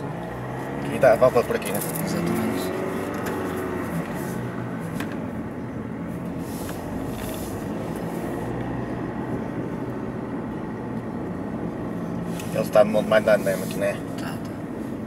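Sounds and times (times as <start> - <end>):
diesel engine hum in cabin: 0.0 - 15.0.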